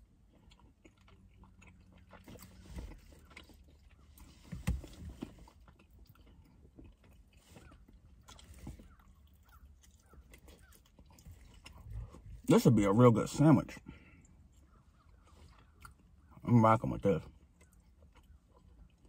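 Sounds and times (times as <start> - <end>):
person chewing: 0.0 - 12.5, 13.8 - 16.4, 17.0 - 19.0.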